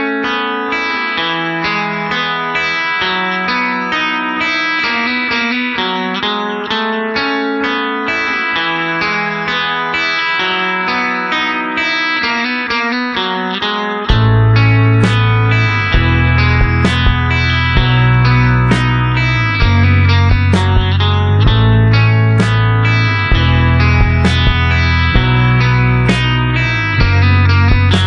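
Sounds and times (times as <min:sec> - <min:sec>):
guitar plucking quick notes: 0:00.0 - 0:28.0.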